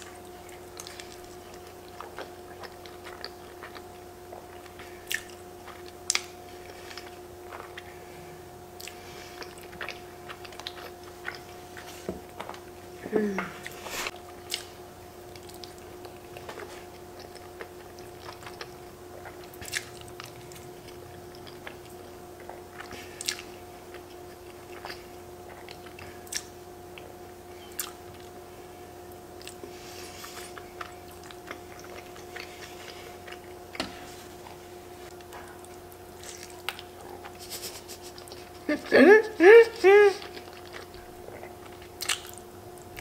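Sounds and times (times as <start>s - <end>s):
person chewing and slurping pasta: 0.0s - 12.9s, 13.6s - 28.4s, 29.4s - 38.7s, 40.2s - 43.0s
steady low hum: 0.0s - 43.0s.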